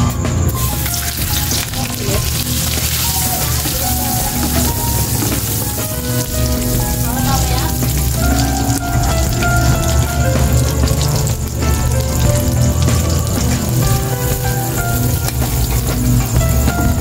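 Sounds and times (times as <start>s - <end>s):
background music with held notes: 0.0s - 17.0s
butter sizzling in a wok: 0.5s - 17.0s.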